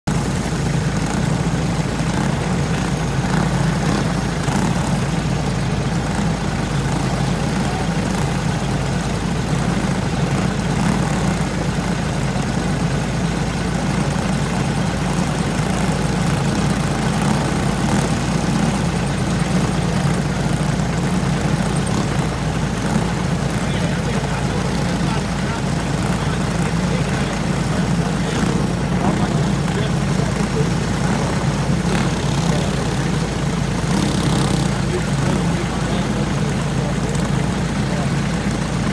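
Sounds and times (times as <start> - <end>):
go-kart engines idling: 0.1 - 38.9.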